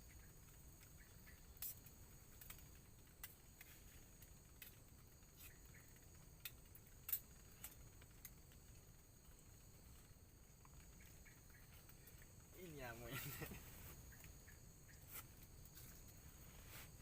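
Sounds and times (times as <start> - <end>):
high-pitched insect trilling: 0.0 - 17.0.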